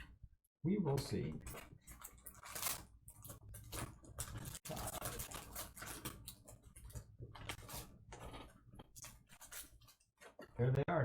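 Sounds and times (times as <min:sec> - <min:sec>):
plastic wrap and cardboard rustling: 0:01.6 - 0:10.7.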